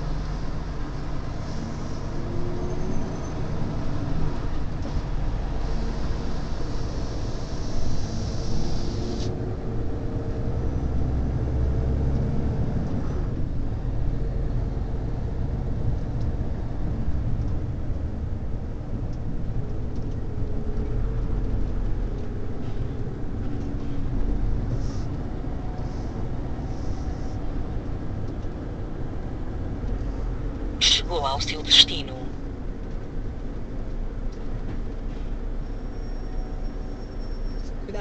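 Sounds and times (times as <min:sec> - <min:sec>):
truck engine and road rumble: 0:00.0 - 0:38.0.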